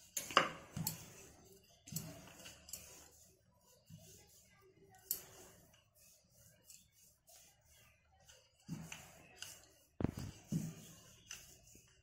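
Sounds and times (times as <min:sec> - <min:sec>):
rolling pin rubbing on dough: 0:00.0 - 0:12.0.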